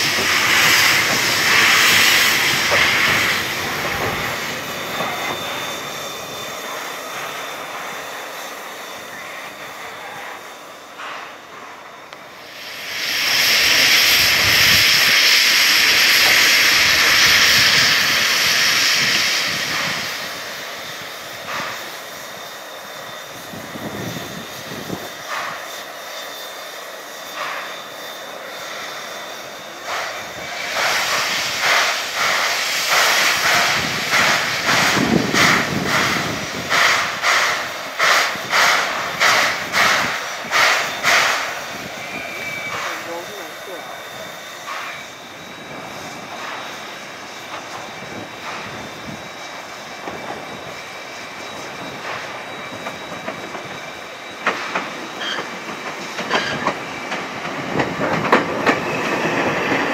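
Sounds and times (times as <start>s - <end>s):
steam hissing: 0.0s - 59.9s
steam locomotive exhaust chuffs: 0.0s - 59.9s.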